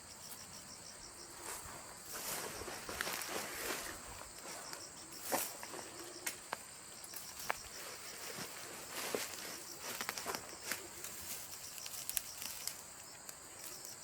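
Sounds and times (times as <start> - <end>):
insects chirping in a pulsing trill: 0.0 - 14.0.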